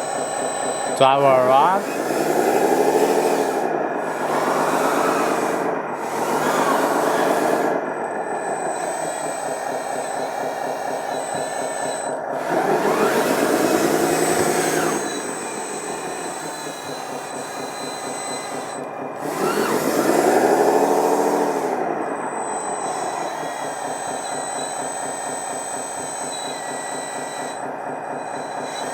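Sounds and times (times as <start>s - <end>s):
simulated diesel engine revving: 0.0s - 28.9s.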